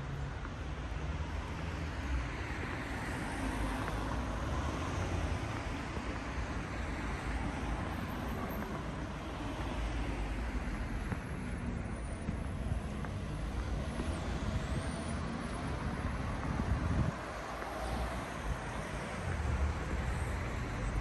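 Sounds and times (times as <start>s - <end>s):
cars driving past: 0.2s - 21.0s.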